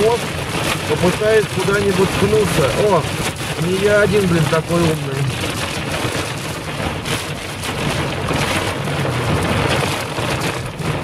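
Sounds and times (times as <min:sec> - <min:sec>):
car road noise: 0:00.0 - 0:11.0
heavy rain on car windshield: 0:00.0 - 0:11.0.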